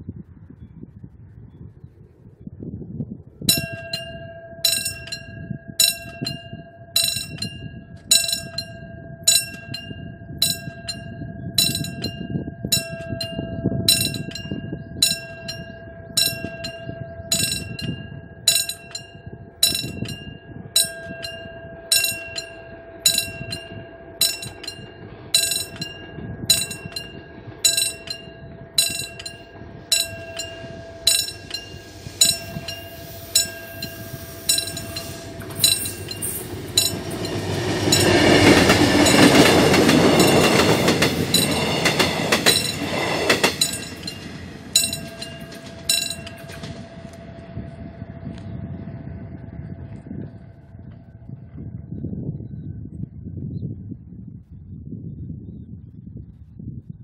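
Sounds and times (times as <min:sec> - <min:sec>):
level crossing warning bell: 0:03.5 - 0:50.0.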